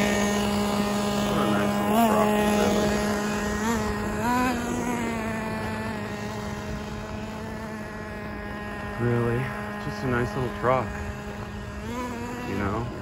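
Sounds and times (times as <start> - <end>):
rc truck engine buzzing: 0.0 - 13.0.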